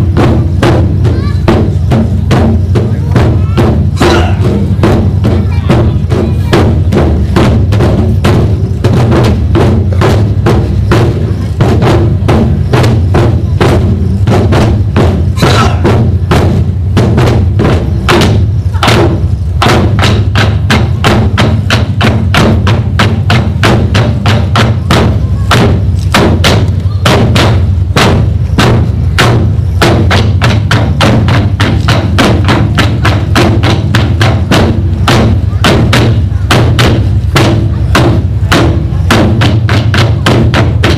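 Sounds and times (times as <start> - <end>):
drums beaten in fast rhythm: 0.0 - 40.9.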